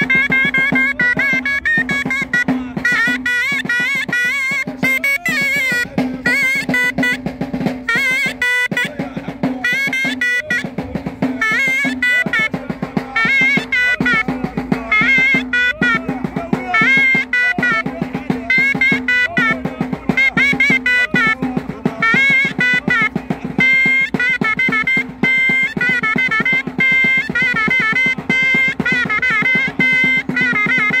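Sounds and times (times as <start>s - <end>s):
drum beaten with a stick: 0.0s - 31.0s
shrill shawm melody: 0.0s - 31.0s.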